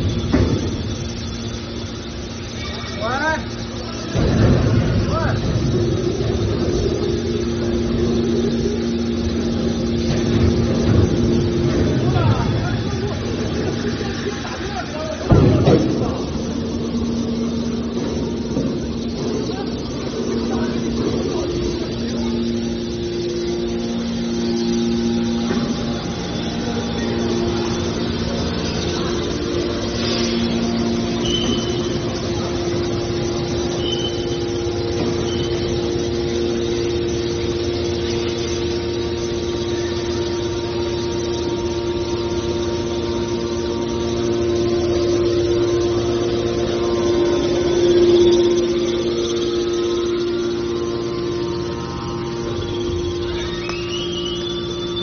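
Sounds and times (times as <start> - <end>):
hydraulic pump humming: 0.0 - 55.0.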